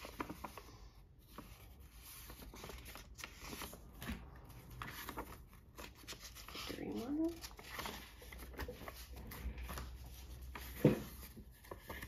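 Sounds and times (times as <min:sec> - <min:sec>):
paper cards rustling: 0:00.0 - 0:12.0.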